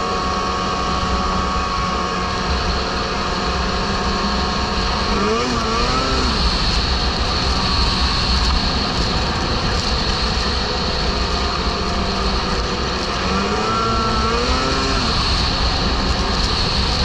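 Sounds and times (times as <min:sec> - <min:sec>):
snowmobile engine running: 0:00.0 - 0:17.0
track and wind noise: 0:00.0 - 0:17.0.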